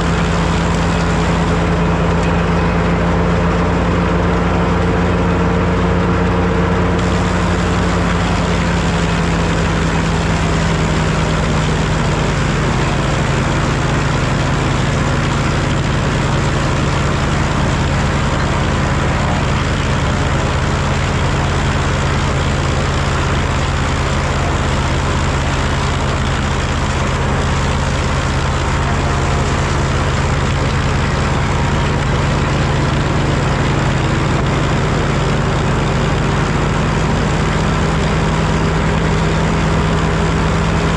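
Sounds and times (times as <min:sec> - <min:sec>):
tractor engine running: 0:00.0 - 0:40.9
wood planer machinery running: 0:00.0 - 0:40.9.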